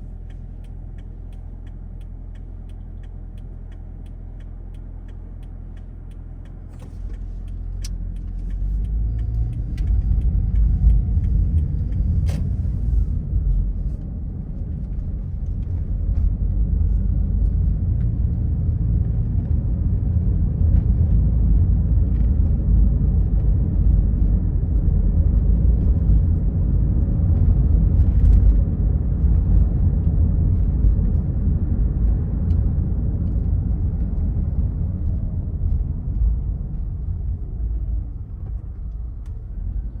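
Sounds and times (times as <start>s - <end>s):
road and wind noise: 0.0s - 40.0s.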